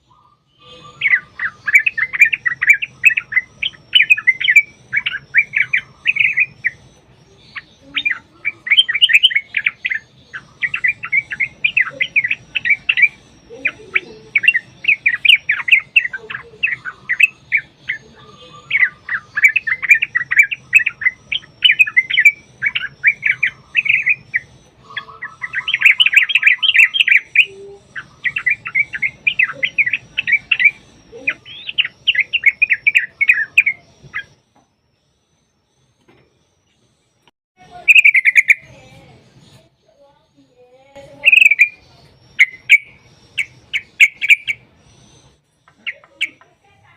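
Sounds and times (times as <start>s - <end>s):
bulbuls chattering: 0.0s - 34.8s, 37.6s - 46.9s.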